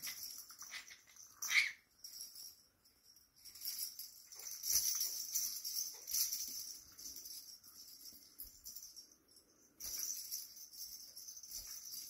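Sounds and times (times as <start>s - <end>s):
toy jingling and rustling: 0.0s - 12.0s.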